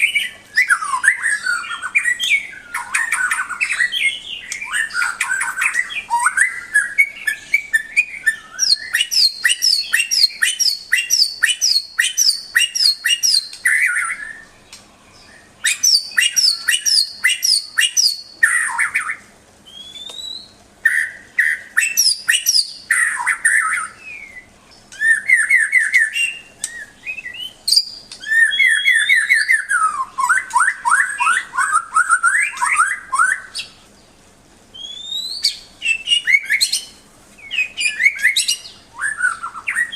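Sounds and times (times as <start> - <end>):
bird singing trills and whistles: 0.0 - 33.8, 34.7 - 39.9.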